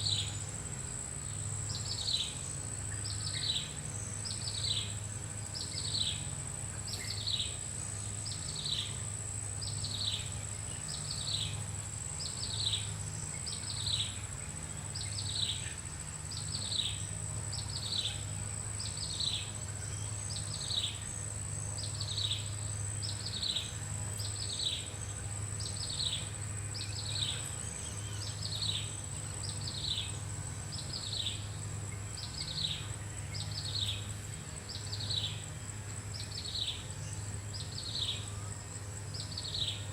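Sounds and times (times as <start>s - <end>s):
high-pitched insect whine: 0.0s - 39.9s
low background hum: 0.0s - 39.9s.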